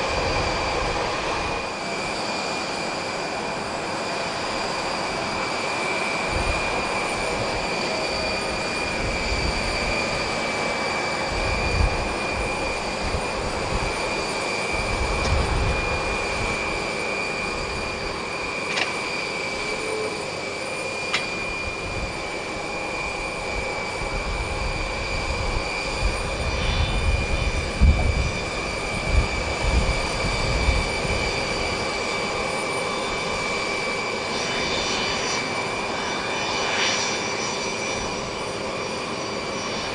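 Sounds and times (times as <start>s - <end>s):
jet engines whining at idle: 0.0s - 39.9s.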